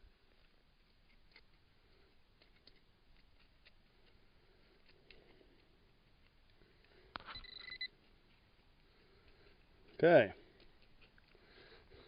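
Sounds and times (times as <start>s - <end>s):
dry dirt crumbling: 0.0s - 12.0s.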